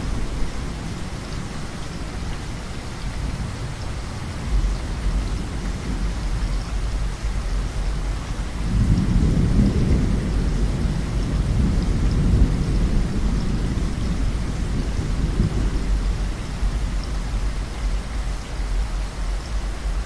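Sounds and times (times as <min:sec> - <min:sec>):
heavy rain: 0:00.0 - 0:20.0
rolling thunder: 0:03.2 - 0:20.0.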